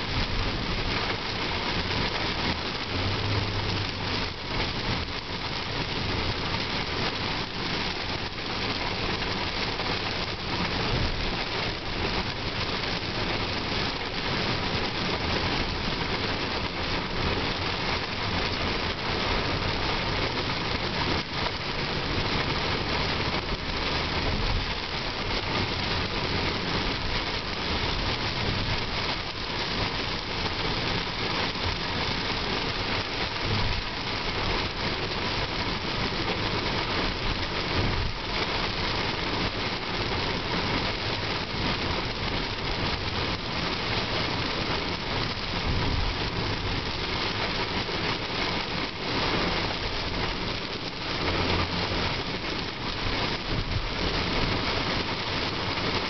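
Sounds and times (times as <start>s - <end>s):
heavy rain on car roof: 0.0s - 56.0s
vehicle and tyre noise: 0.0s - 56.0s.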